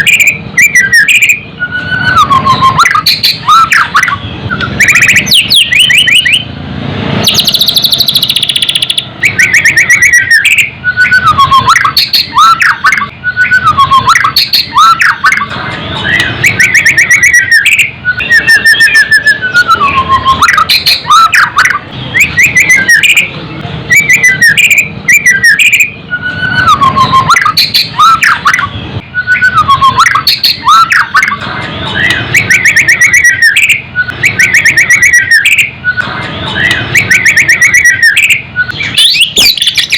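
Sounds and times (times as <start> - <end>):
bird singing trills and whistles: 0.0 - 6.6, 7.2 - 39.9.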